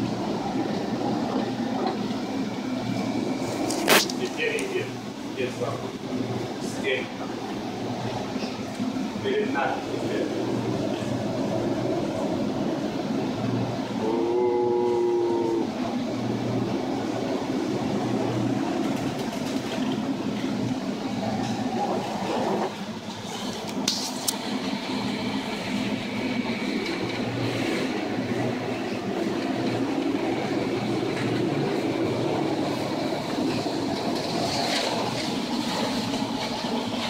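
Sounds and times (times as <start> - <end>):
rushing wind: 0.0 - 37.0
ship engine drone: 0.0 - 37.0.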